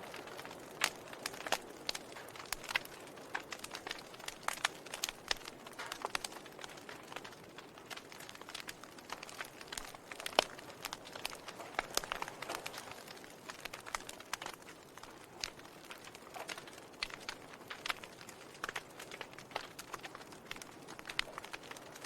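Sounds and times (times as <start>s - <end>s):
soft steady hiss: 0.0s - 22.0s
wood fire crackling: 0.0s - 22.0s.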